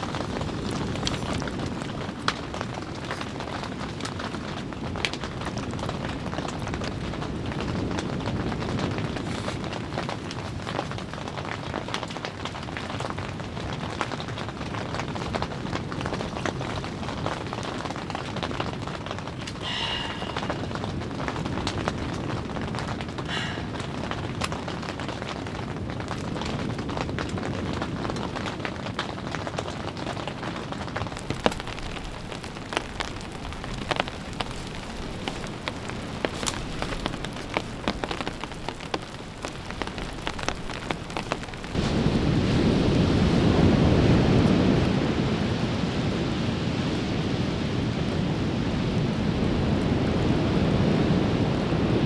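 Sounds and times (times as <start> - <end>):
rain with ticking drops: 0.0 - 52.0.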